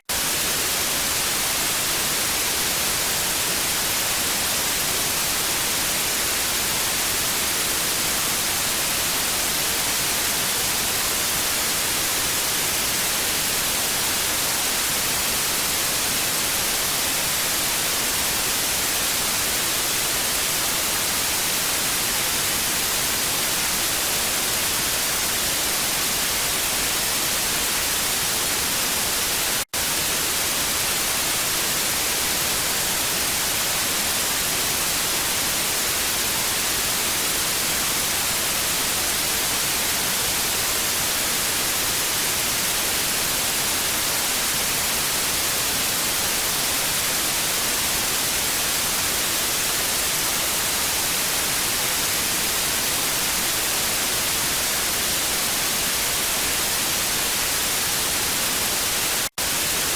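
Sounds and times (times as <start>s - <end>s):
tv static hiss: 0.1s - 59.9s.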